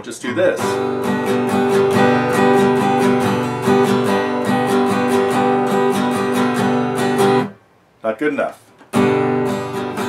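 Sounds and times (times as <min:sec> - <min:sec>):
acoustic guitar strumming: 0:00.0 - 0:07.6, 0:08.8 - 0:10.0.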